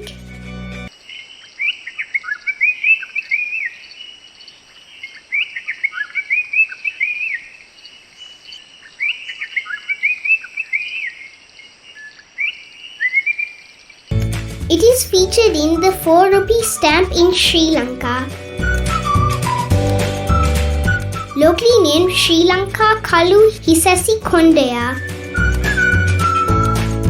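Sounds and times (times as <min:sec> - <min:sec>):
bird chirping: 0:00.9 - 0:14.1, 0:16.6 - 0:27.0.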